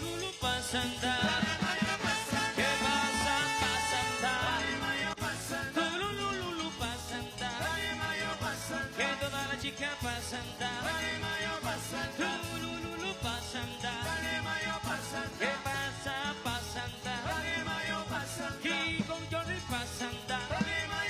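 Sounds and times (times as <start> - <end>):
live band playing dance music: 0.0 - 21.0.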